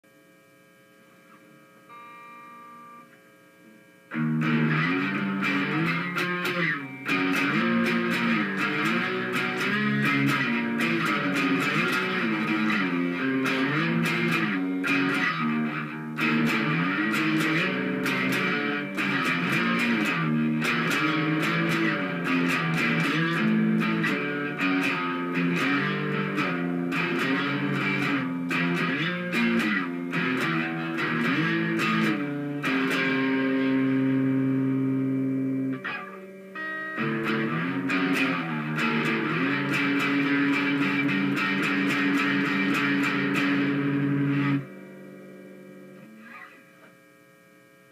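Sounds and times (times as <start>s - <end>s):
electric guitar single notes: 1.2s - 47.9s.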